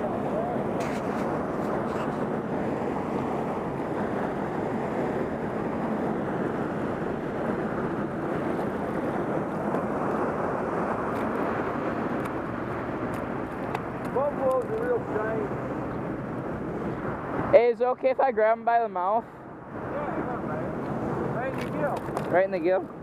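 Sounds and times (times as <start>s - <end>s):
wind on microphone: 0.0s - 17.7s, 19.2s - 23.0s.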